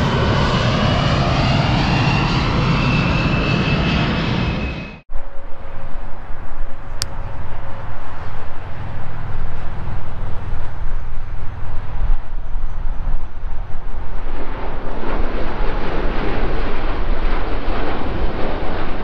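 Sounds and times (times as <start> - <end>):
jet airliner taking off: 0.0 - 19.0.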